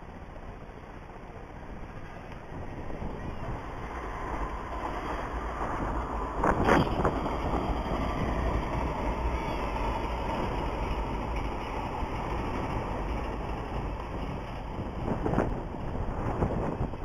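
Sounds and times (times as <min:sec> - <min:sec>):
wind noise on microphone: 0:01.6 - 0:17.0.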